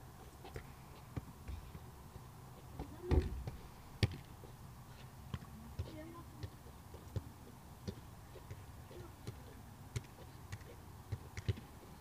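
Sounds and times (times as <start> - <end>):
foot tapping football: 0.4 - 4.5, 5.3 - 11.9.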